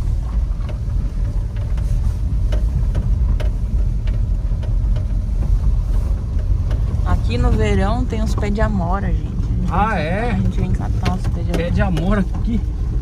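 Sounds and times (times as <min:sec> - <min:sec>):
rattles and knocks: 0:00.0 - 0:13.0
truck engine and road rumble: 0:00.0 - 0:13.0.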